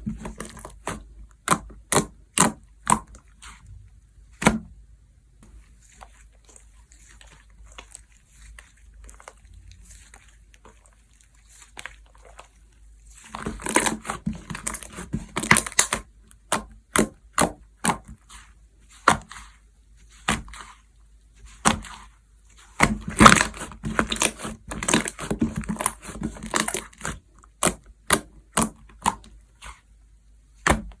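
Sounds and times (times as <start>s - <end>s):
slime crackling and squelching: 0.0s - 4.5s, 5.4s - 31.0s.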